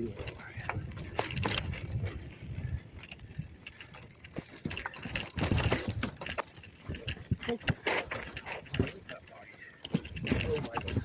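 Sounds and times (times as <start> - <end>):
bicycle freewheel ticking: 0.0 - 11.0
bike rattling over bumps: 0.0 - 11.0.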